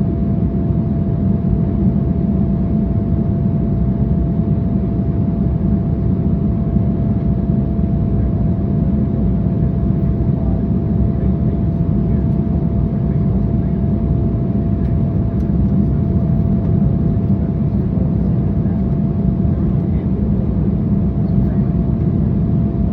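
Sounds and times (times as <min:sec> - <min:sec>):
jet engines and airflow rumble: 0:00.0 - 0:22.9.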